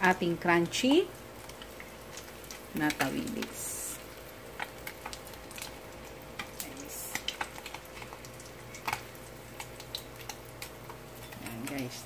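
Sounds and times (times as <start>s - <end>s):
fish frying in oil: 0.0s - 12.0s
spatula crackles in wok: 0.0s - 12.0s.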